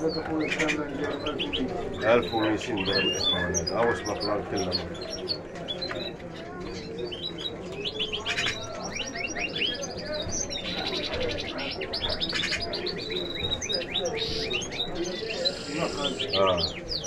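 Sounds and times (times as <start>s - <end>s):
low background murmur: 0.0s - 17.0s
songbirds chirping: 0.0s - 17.0s.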